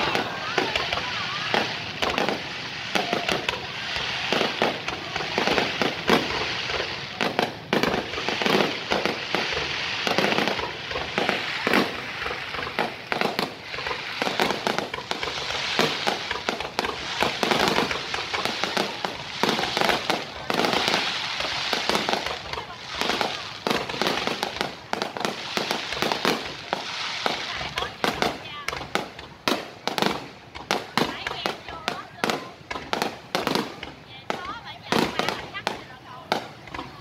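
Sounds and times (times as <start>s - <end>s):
continuous hiss: 0.0s - 37.0s
fireworks bursting: 0.0s - 37.0s.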